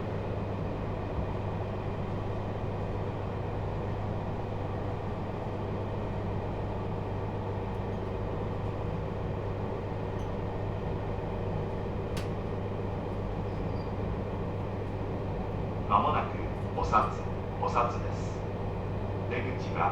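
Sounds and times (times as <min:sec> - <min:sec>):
train interior running noise: 0:00.0 - 0:19.9.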